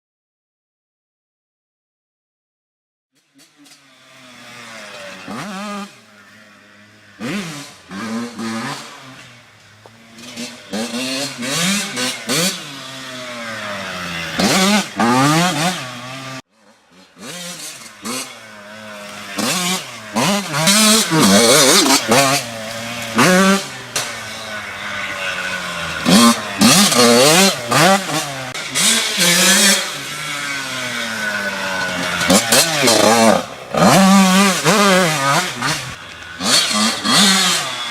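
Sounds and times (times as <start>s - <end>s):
dirt bike engine revving: 3.2s - 37.9s.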